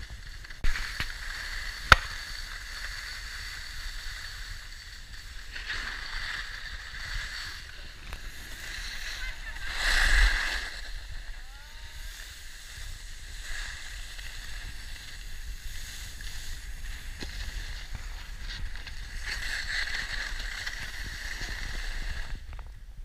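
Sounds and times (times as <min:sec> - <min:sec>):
snowboards scraping over snow: 0:00.0 - 0:23.0.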